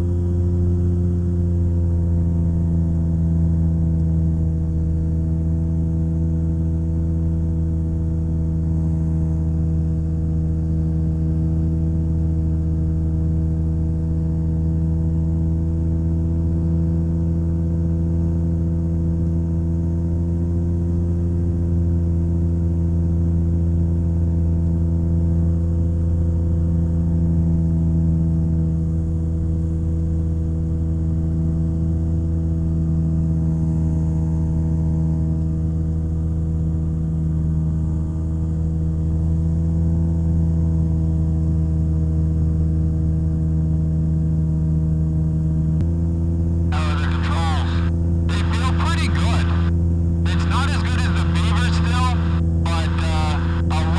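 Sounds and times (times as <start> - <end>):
ultralight aircraft engine drone: 0.0 - 53.9.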